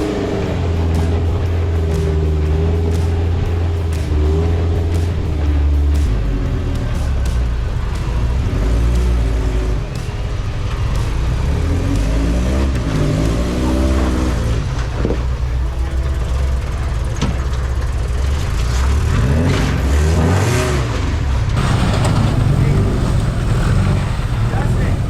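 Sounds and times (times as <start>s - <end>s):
truck engine running at low revs: 0.0s - 25.0s.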